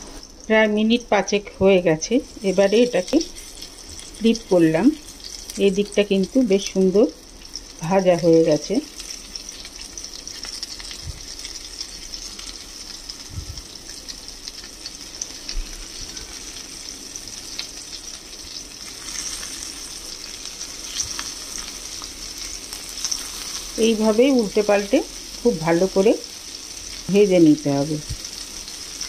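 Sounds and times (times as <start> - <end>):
patties sizzling in oil: 0.0 - 29.0
spatula ticks turning patties: 0.2 - 29.0.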